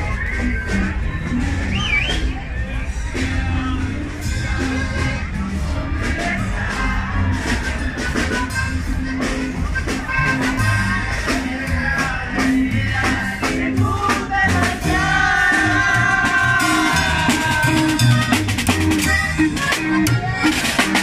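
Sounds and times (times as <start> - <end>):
accordion melody: 0.0 - 21.0
guitar: 0.0 - 21.0
upright bass line: 0.0 - 21.0
drum kit beat: 3.1 - 21.0.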